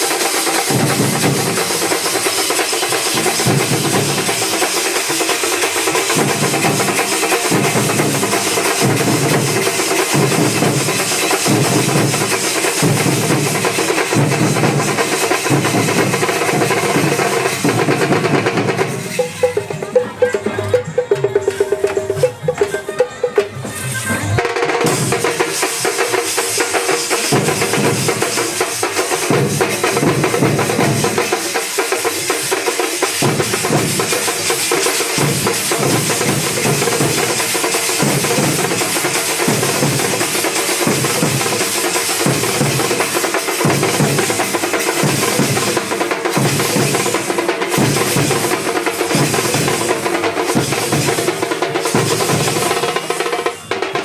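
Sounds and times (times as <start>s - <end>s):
heavy low drum beats: 0.0s - 23.8s, 24.4s - 53.8s
drum band playing fast rhythm: 0.0s - 54.0s.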